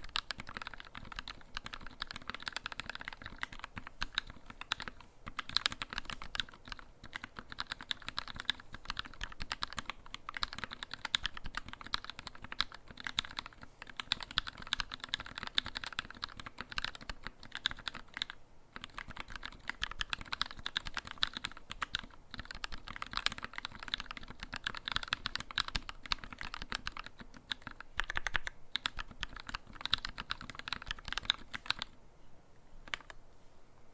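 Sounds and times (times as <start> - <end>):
fast mechanical keyboard typing: 0.0 - 32.0, 32.9 - 33.2.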